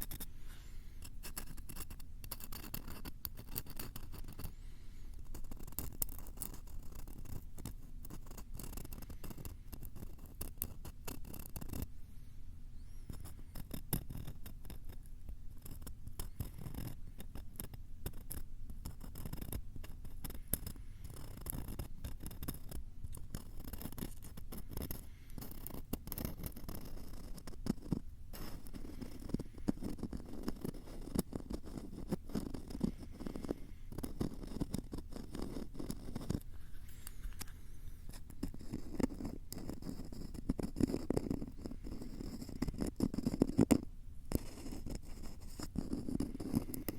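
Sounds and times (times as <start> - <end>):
scratching and tapping on microphone: 1.0 - 4.5, 5.3 - 11.8, 13.2 - 46.9.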